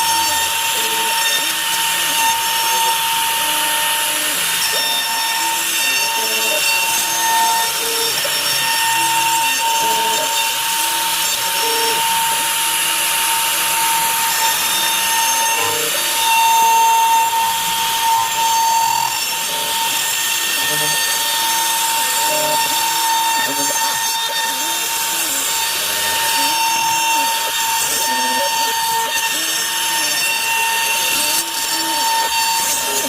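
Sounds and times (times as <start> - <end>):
bit rasping through wood: 0.0 - 33.0
router spindle high whine: 0.0 - 33.0.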